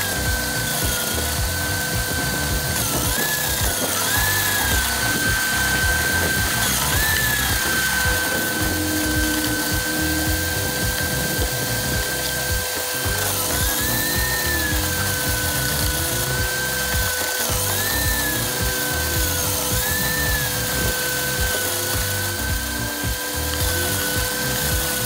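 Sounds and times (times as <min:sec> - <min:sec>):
garden shredder whining: 0:00.0 - 0:25.0.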